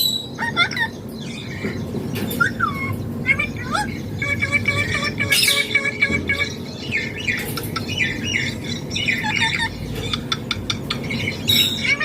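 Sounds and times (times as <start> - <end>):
parakeet squawky calls: 0.0 - 1.8, 2.4 - 12.0.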